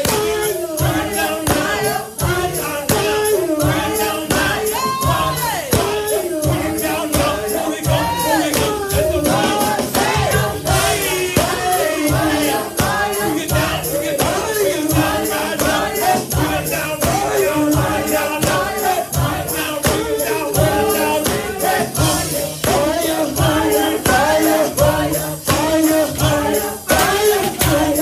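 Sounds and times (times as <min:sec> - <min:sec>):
gospel music with singing: 0:00.0 - 0:28.0
tambourine shaking: 0:00.0 - 0:28.0.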